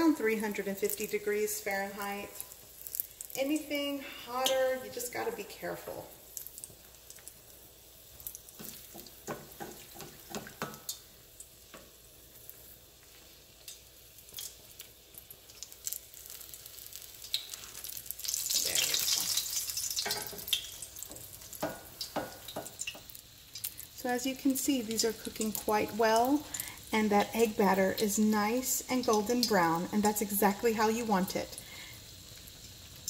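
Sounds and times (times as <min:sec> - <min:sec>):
loud hissing sizzle: 0:00.0 - 0:33.0
oil frying crackle: 0:00.0 - 0:33.0.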